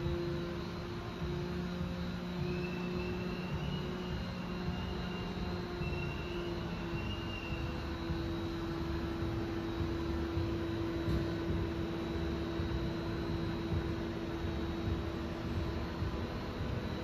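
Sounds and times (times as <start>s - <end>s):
machining center humming: 0.0s - 17.0s.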